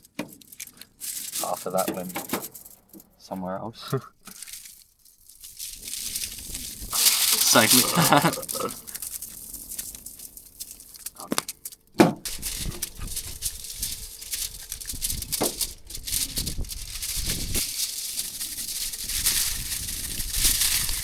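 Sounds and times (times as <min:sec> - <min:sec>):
foil crinkling: 0:00.0 - 0:03.2, 0:03.8 - 0:21.0.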